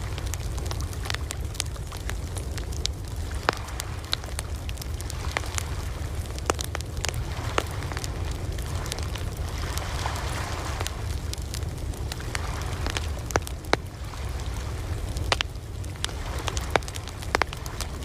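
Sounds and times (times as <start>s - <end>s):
campfire crackling and popping: 0.0s - 18.0s
ocean waves rumbling: 0.0s - 18.0s.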